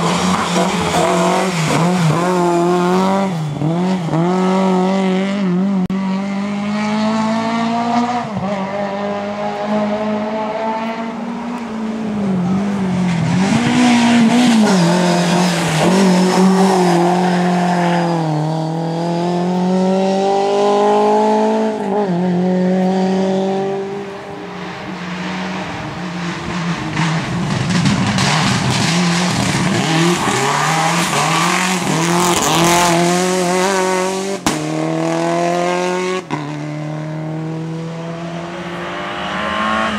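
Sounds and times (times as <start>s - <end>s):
rally car engine accelerating: 0.0s - 39.9s.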